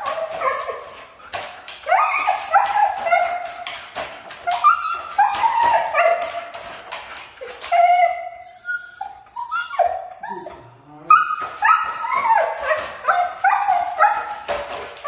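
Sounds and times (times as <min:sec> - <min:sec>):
dog whining and yowling: 0:01.8 - 0:06.7, 0:07.4 - 0:15.0.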